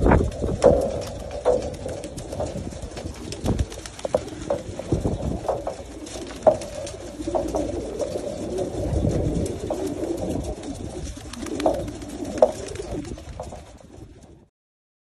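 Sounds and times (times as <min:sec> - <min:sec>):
pigeons cooing: 0:00.0 - 0:14.4.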